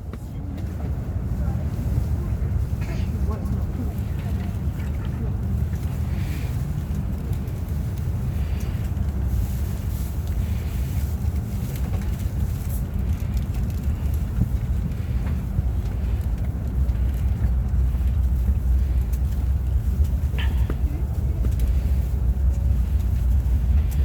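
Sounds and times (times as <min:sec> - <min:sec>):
low rumble inside train cabin: 0:00.0 - 0:24.0.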